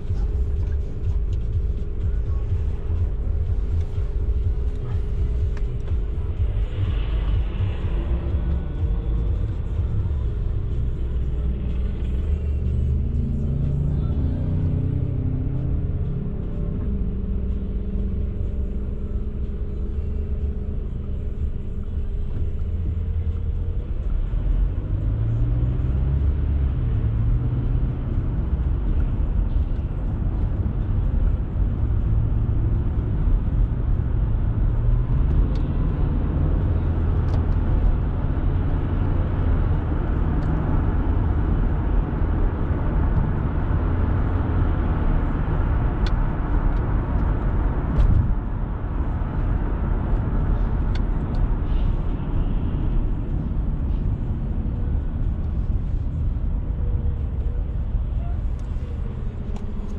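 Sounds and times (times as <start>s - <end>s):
car engine accelerating: 0.0s - 59.9s
tyres rumbling on road: 0.0s - 59.9s.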